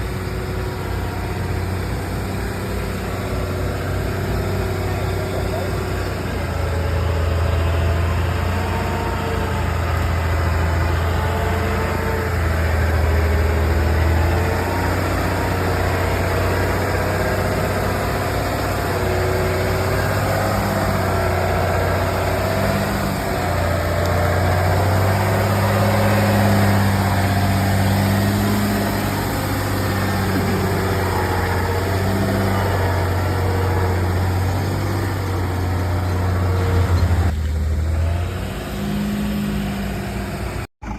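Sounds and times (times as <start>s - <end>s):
vehicle engine running at low revs: 0.0s - 40.9s.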